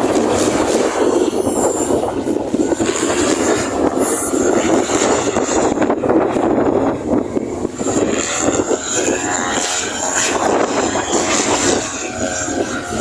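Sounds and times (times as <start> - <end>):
propeller aircraft engine: 0.0 - 13.0
rough gusting noise: 0.0 - 13.0.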